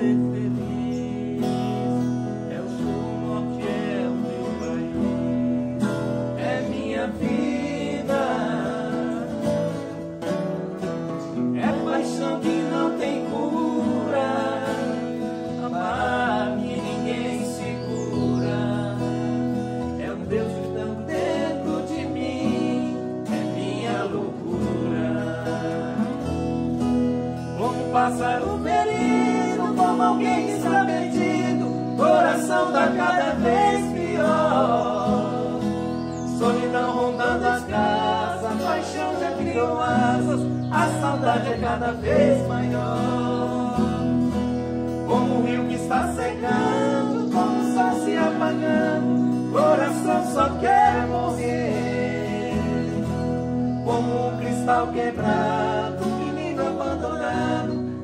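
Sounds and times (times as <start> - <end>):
acoustic guitars strummed: 0.0 - 58.0
two men singing: 0.0 - 58.0.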